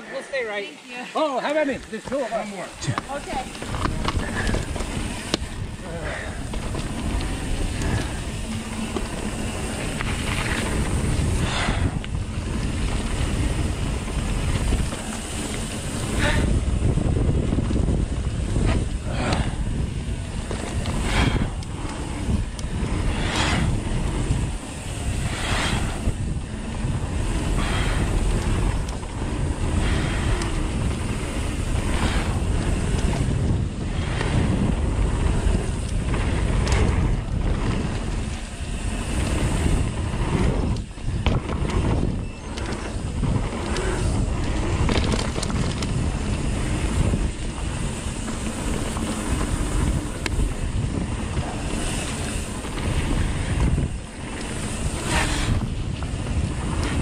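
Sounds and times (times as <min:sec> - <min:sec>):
tyres rolling over dirt: 0:01.2 - 0:57.0
wind on microphone: 0:02.7 - 0:57.0
bike knocks and rattles: 0:02.8 - 0:57.0.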